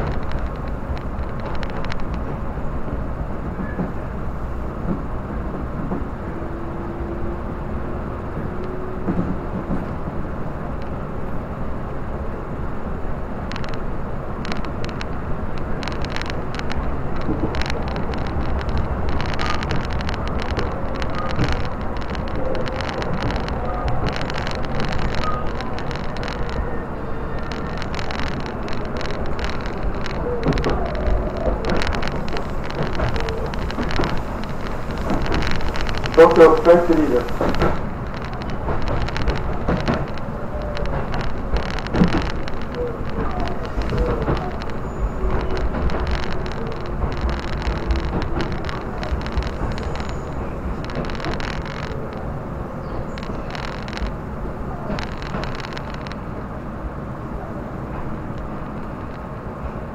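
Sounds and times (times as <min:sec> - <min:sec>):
track clicks and clacks: 0:00.0 - 0:59.9
train wheels rumbling on rails: 0:00.0 - 0:59.9.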